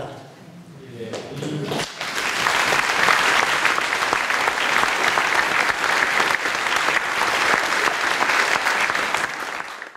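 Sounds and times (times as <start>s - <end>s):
audience applauding: 1.7s - 9.9s.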